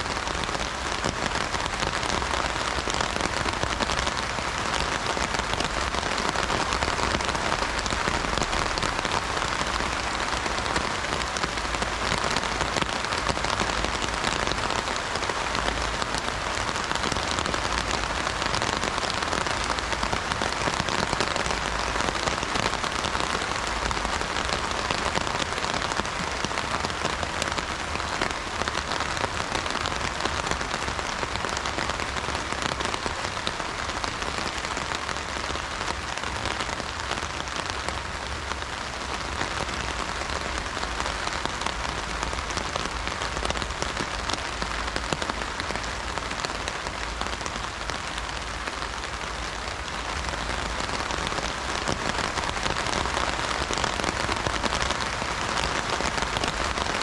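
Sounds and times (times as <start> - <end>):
heavy rain on umbrella: 0.0 - 57.0.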